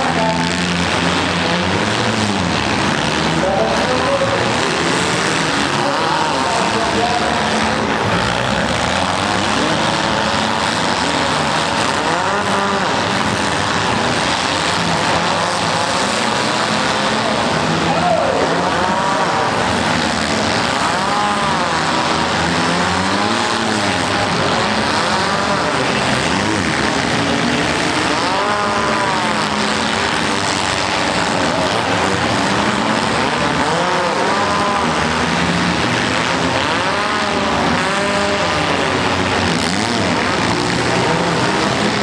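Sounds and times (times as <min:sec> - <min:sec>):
car engines revving hard: 0:00.0 - 0:42.0.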